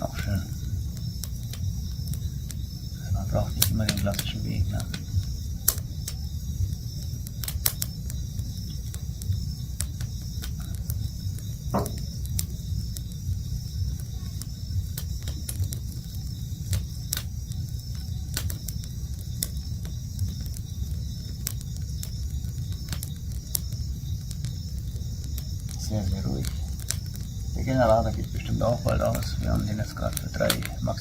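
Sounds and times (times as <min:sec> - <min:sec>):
campfire crackling and popping: 0:00.0 - 0:31.0
night insects chirring: 0:00.0 - 0:31.0.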